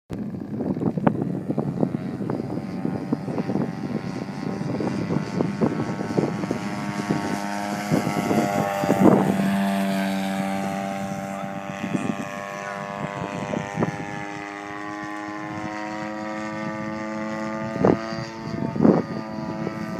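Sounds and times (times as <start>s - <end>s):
model airplane propeller running: 0.2s - 19.9s.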